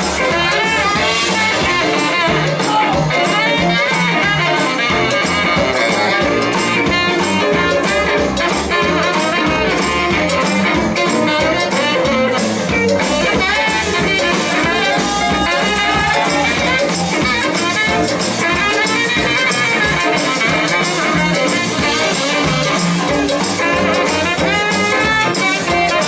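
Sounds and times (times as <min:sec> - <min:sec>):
live blues band playing: 0:00.0 - 0:26.0.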